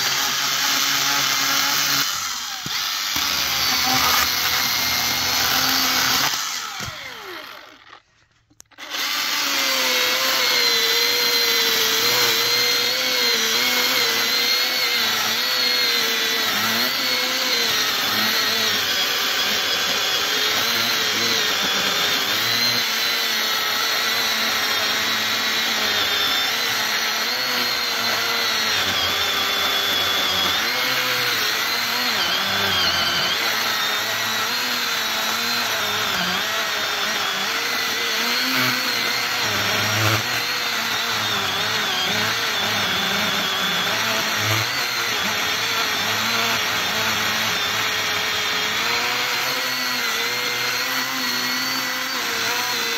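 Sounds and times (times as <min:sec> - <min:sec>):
cordless chainsaw cutting wood: 0:00.0 - 0:52.9.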